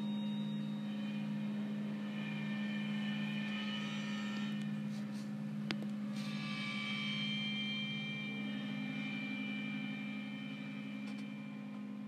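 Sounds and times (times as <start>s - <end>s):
thin high tones: 0.0s - 5.4s, 6.0s - 12.0s
steady low hum: 0.0s - 12.0s.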